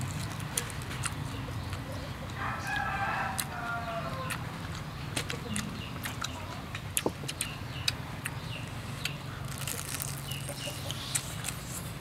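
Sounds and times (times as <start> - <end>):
crunchy food being chewed: 0.0 - 12.0
chickens clucking: 0.6 - 9.4, 10.2 - 11.8.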